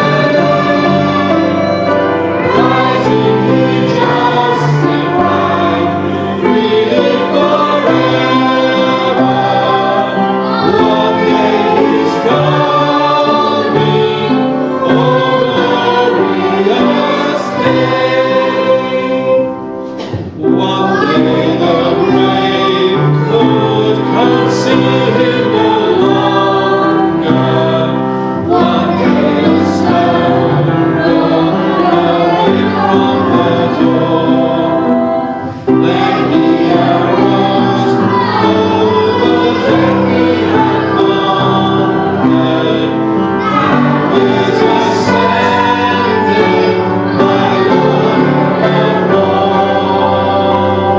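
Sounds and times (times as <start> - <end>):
choir singing a gospel hymn: 0.0 - 50.9
instrumental accompaniment: 0.0 - 50.9.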